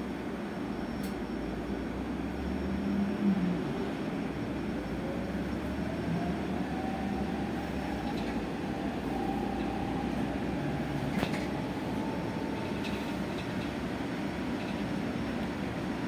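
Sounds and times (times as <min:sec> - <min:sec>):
bus road rumble: 0:00.0 - 0:16.0.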